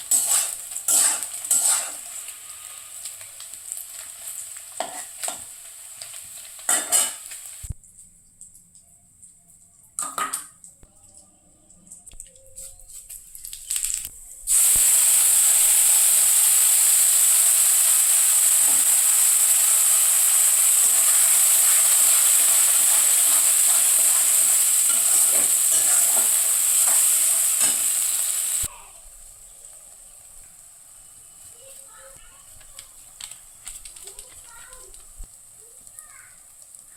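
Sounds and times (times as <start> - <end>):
food sizzling in hot oil: 0.0 - 7.9, 13.0 - 36.9.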